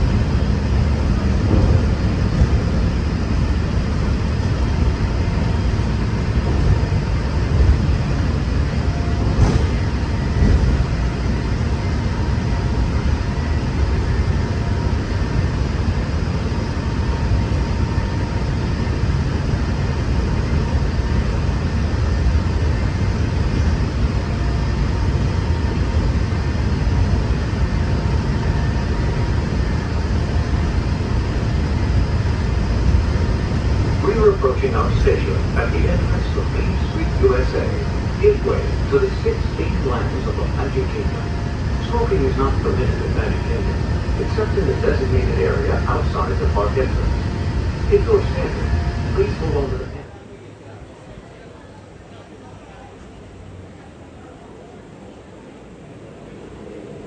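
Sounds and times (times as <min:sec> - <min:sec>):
monorail rumble with faint whine: 0:00.0 - 0:57.0.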